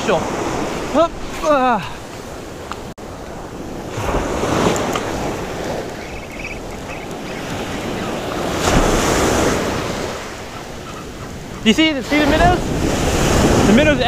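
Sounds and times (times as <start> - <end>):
ocean surf breaking: 0.0 - 14.0
wind buffeting microphone: 2.1 - 14.0.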